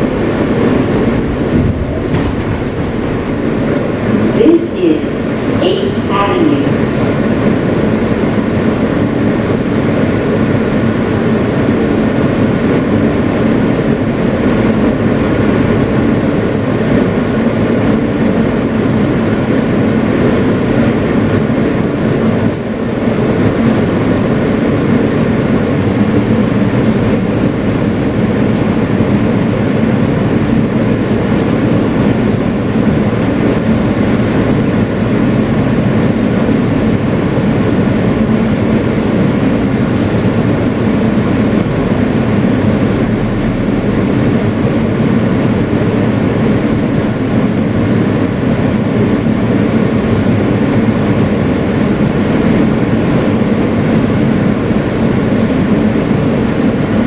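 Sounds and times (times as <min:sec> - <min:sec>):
train motor hum: 0:00.0 - 0:57.0
wheels rumbling on rail: 0:00.0 - 0:57.0.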